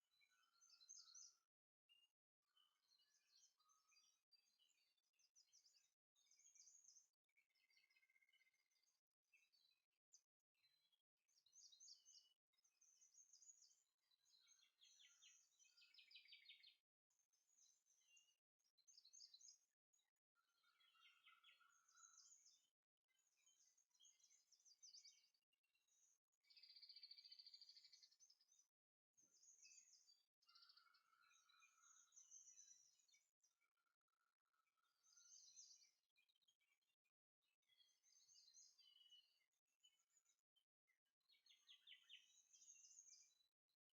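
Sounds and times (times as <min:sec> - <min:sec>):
faint bird chirping: 0:00.0 - 0:43.9.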